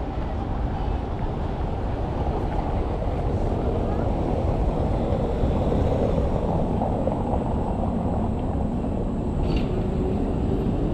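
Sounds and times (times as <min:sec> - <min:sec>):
low outdoor rumbling: 0:00.0 - 0:10.9.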